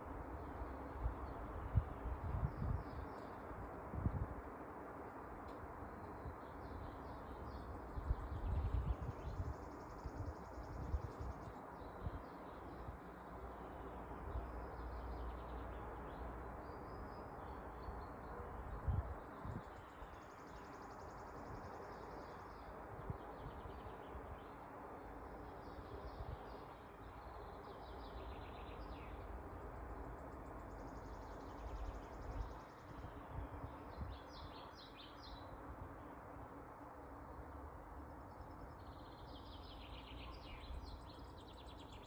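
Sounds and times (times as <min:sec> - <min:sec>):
songbirds chirping: 0:00.0 - 0:42.0.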